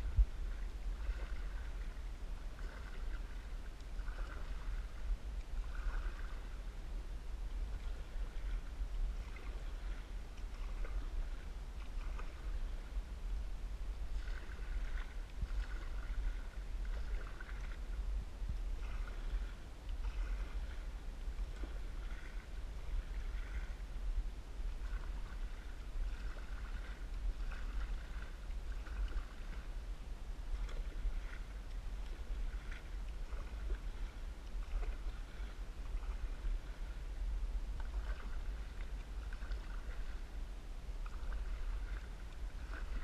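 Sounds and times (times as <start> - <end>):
paddle splashing in water: 0.0 - 43.0
steady low rumble: 0.0 - 43.0.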